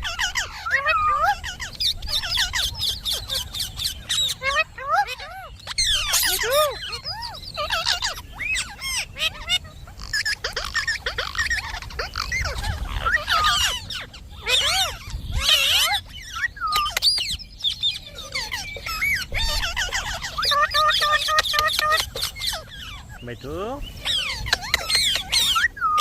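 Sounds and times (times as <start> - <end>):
parakeet chattering and calling: 0.0 - 26.0.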